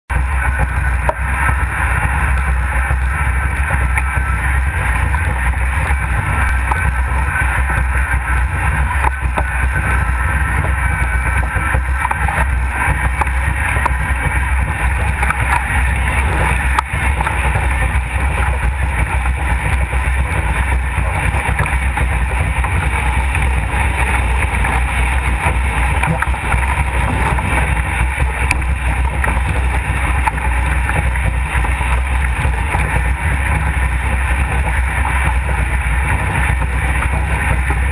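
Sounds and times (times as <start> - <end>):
wind buffeting camera: 0.1 - 37.9.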